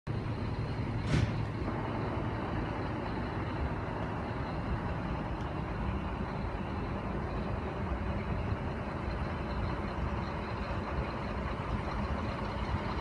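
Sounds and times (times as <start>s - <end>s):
truck diesel engine idling: 0.1s - 13.0s.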